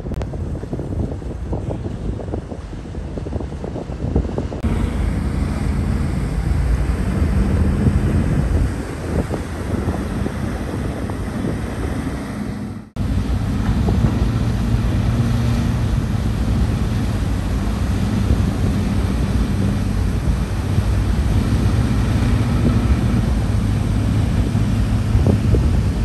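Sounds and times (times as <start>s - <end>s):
boat wake rushing against hull: 0.0s - 26.0s
low engine drone: 0.0s - 26.0s
wind buffeting microphone: 0.0s - 26.0s.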